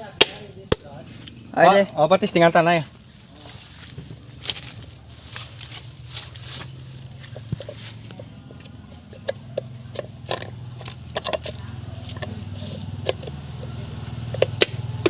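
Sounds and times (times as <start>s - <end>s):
vehicle engine idling: 0.4s - 15.0s.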